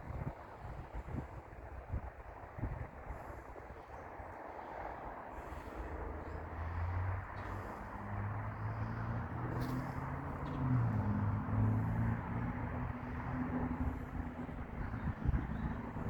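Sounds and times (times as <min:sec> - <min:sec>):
steady traffic rush: 0:00.0 - 0:16.0
vehicle engine hum: 0:00.0 - 0:16.0.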